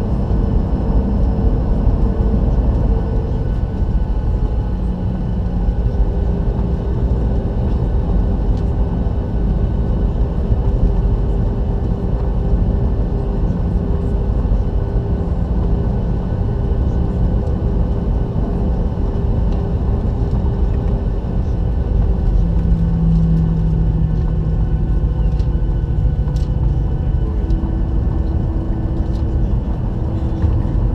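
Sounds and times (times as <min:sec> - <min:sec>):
jet engines running: 0:00.0 - 0:30.9.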